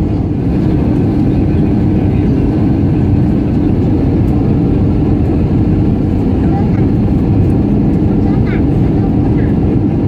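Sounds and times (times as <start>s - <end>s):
jet engine and airflow noise: 0.0s - 10.0s.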